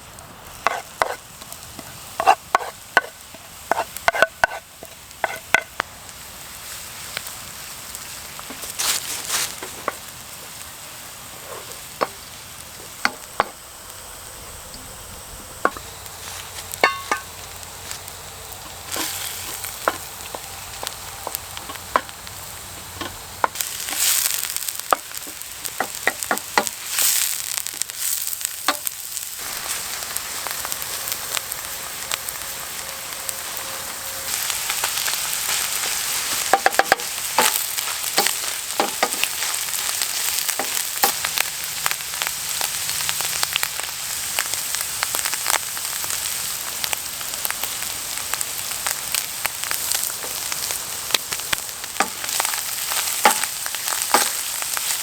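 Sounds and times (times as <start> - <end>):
food sizzling in hot oil: 0.0 - 55.0
oil crackling and popping: 0.0 - 55.0.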